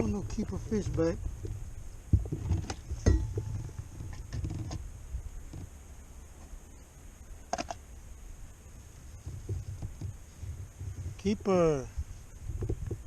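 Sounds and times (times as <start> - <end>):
quiet clicks and bumps: 0.0 - 6.6, 8.9 - 13.0.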